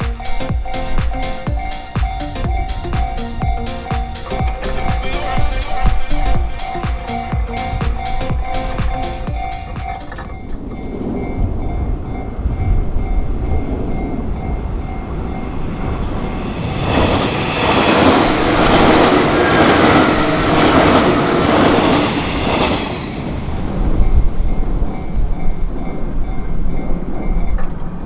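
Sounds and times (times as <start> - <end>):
train rumbling past: 0.0 - 28.0.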